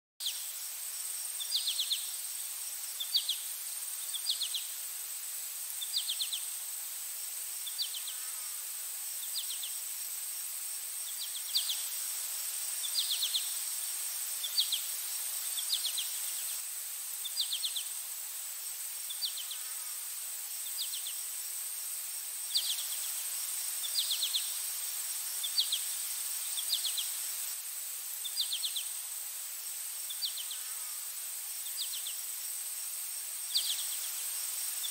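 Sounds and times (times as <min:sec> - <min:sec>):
high insect drone: 0:00.2 - 0:34.9
trilled insect chirp: 0:00.2 - 0:34.9.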